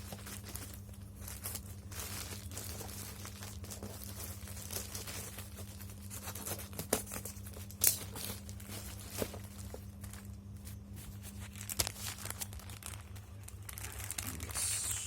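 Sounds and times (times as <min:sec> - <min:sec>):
plastic and tape crinkling: 0:00.0 - 0:15.0
steady low hum: 0:00.0 - 0:15.0.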